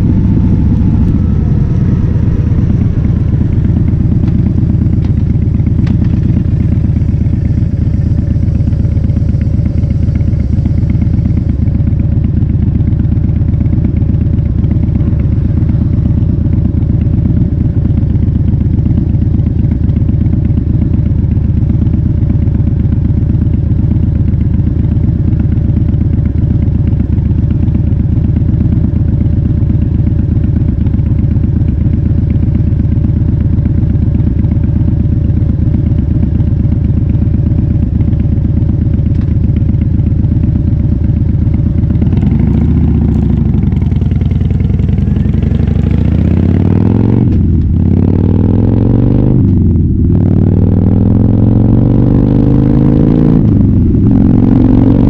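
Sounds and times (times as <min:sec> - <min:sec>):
motorcycle idling and revving: 0:00.0 - 0:55.0.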